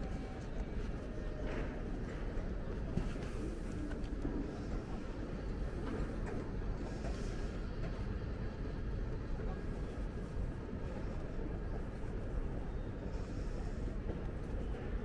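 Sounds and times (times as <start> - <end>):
faint murmur of voices: 0.0 - 15.0.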